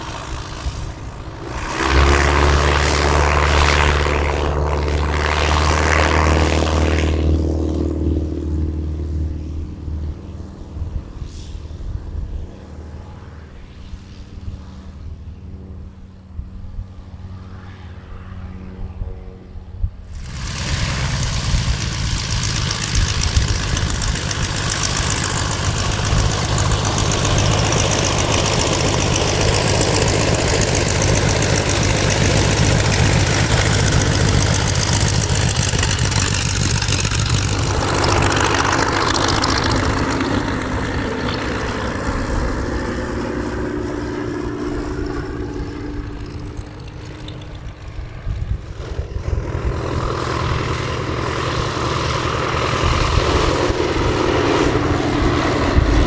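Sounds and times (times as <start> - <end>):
engine drone with rushing noise: 0.0 - 56.0
propeller plane engine drone: 0.0 - 56.0.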